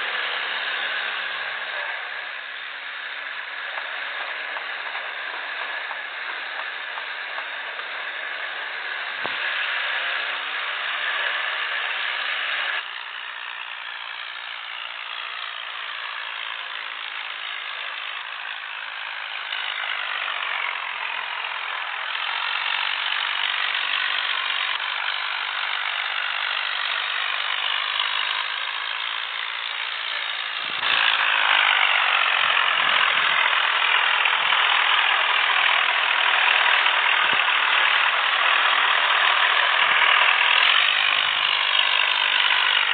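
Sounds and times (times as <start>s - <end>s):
tractor engines running hard: 0.0s - 42.9s.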